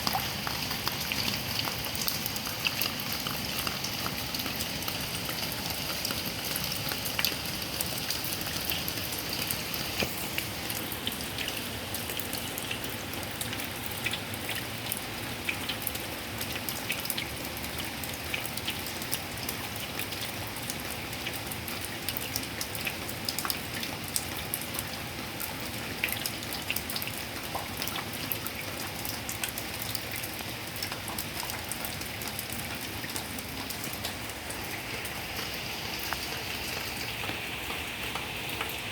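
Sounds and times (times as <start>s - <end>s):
heavy rain pouring: 0.0s - 26.6s, 27.2s - 38.9s.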